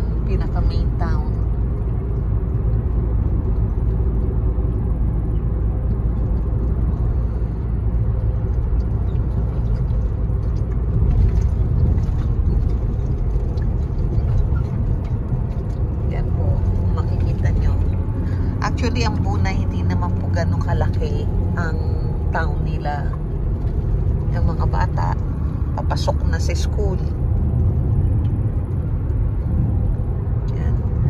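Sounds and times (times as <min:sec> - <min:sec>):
road and engine noise in car: 0:00.0 - 0:31.0.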